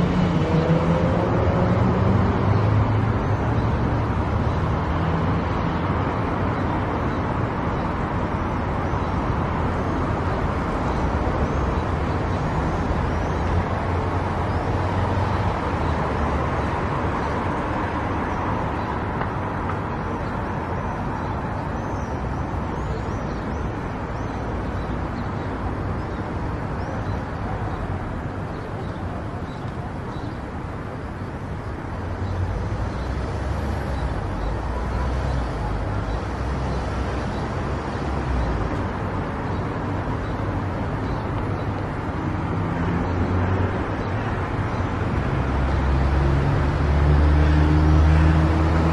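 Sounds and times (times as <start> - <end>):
car road noise: 0.0 - 48.9.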